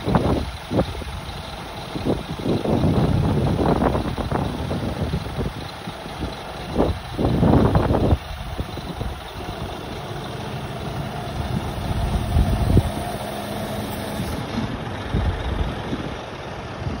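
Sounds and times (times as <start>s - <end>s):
diesel truck engine running: 0.0s - 17.0s
hydraulics working: 0.0s - 17.0s.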